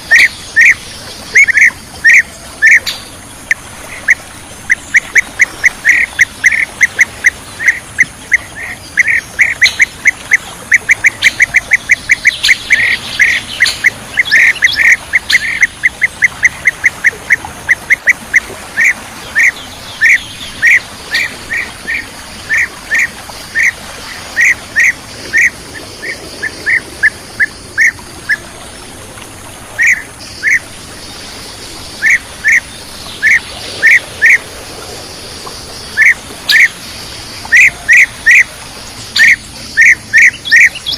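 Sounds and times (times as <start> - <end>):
bee-eaters calling: 0.0 - 28.5, 29.8 - 30.7, 31.9 - 34.4, 35.8 - 36.8, 37.4 - 40.9.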